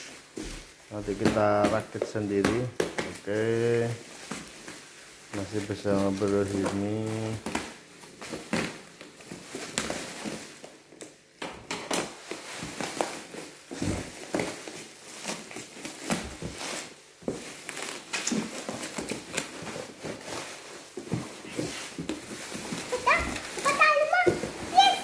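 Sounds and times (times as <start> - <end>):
bubble wrap crinkling: 0.0 - 11.4, 12.1 - 25.0.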